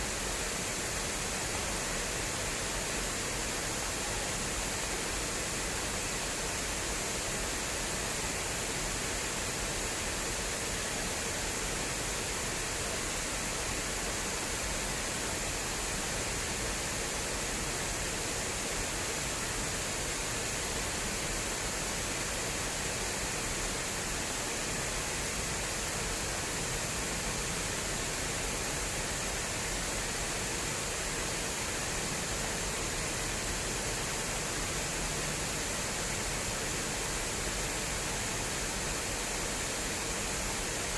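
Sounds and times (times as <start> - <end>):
water rushing along a channel: 0.0 - 40.9.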